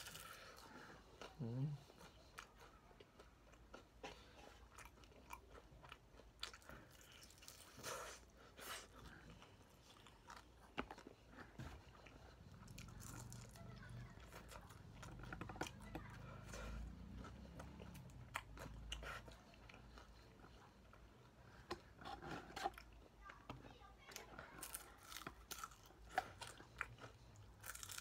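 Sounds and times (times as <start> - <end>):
person chewing crispy chicken: 0.0 - 28.0.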